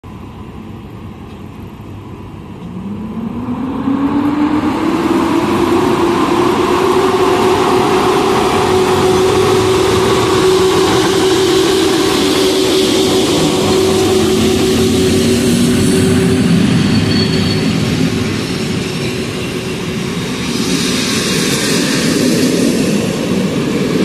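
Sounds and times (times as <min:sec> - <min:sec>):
electric locomotive hum rising: 0:00.0 - 0:24.0.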